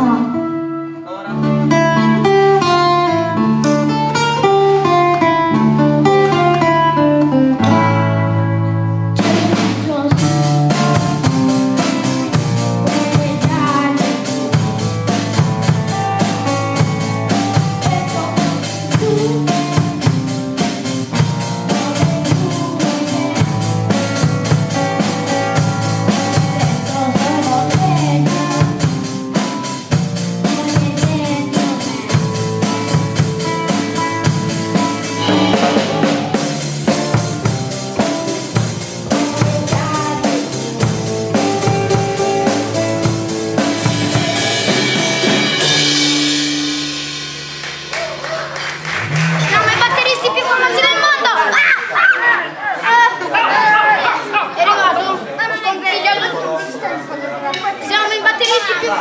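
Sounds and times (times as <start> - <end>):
electric bass: 0.0 - 50.9
acoustic guitar: 0.0 - 51.1
drum kit beat: 1.6 - 51.2.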